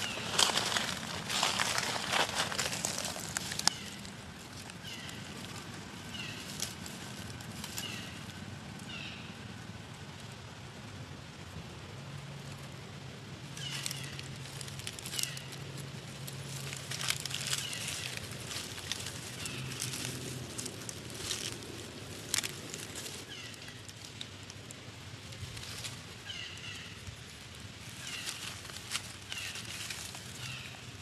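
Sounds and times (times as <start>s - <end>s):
dry leaves rustling: 0.0s - 31.0s.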